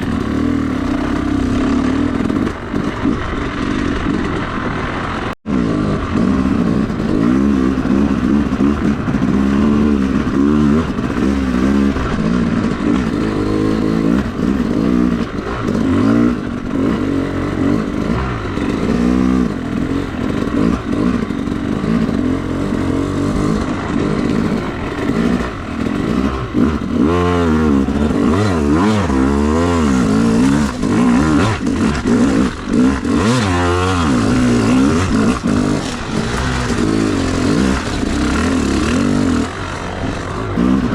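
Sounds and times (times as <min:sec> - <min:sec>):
two-stroke dirt bike engine revving: 0:00.0 - 0:40.9.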